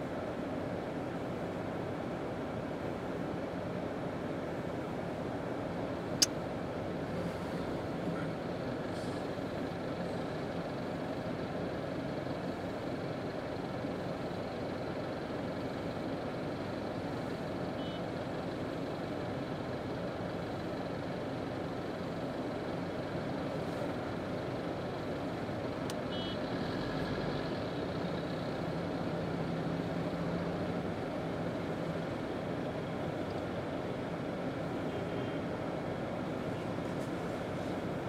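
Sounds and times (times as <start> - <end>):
low engine hum: 0.0 - 38.0
slow traffic engines passing: 0.0 - 38.0.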